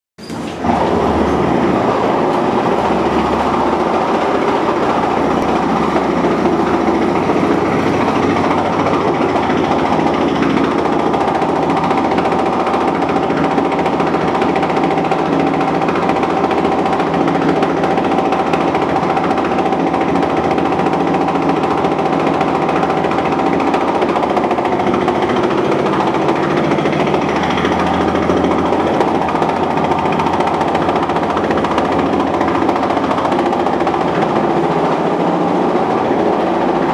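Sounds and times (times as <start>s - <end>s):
steady whine: 0.3s - 36.9s
jackhammer hammering: 0.6s - 36.9s.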